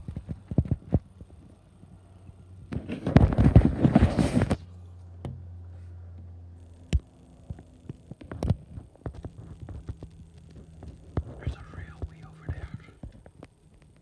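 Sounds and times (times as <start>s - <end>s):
crackling and rustling on microphone: 0.0s - 14.0s
distant helicopter hum: 0.0s - 14.0s.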